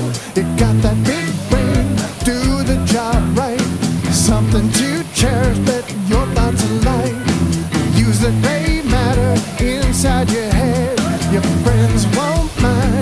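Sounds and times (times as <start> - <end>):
rock song with singing: 0.0 - 13.0.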